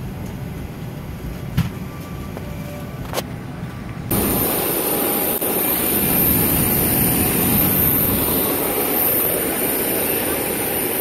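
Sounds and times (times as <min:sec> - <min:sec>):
jet turbine whine and rumble: 0:00.0 - 0:11.0.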